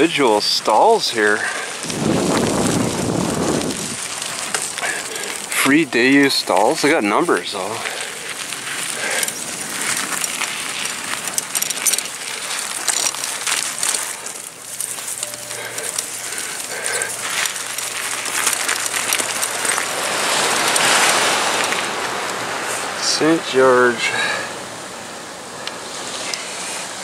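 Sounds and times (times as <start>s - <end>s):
ocean surf: 0.0s - 17.0s, 17.7s - 27.0s
footsteps crunching on gravel: 0.0s - 23.0s
wind hiss: 0.0s - 27.0s.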